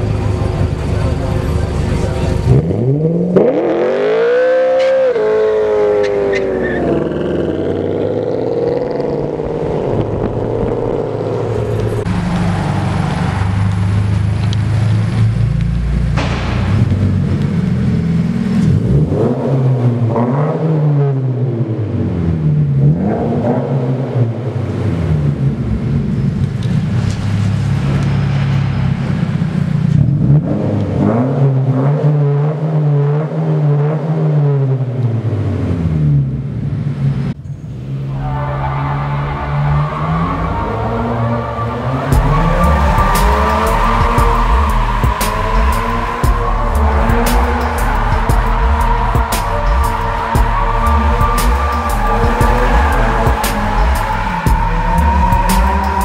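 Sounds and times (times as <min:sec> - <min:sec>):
car engine revving and idling: 0:00.0 - 0:56.0
sports car engine accelerating: 0:00.0 - 0:56.0.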